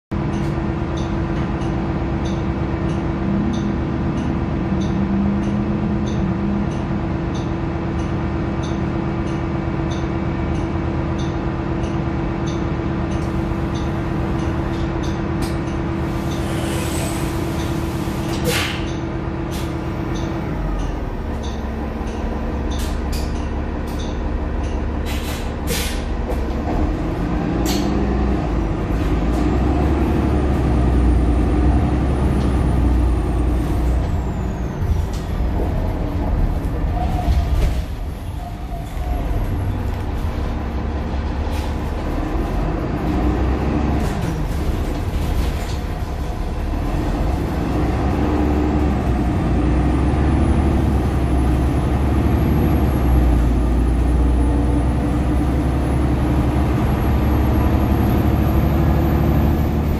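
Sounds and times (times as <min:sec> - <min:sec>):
bus diesel engine running: 0:00.1 - 0:59.9.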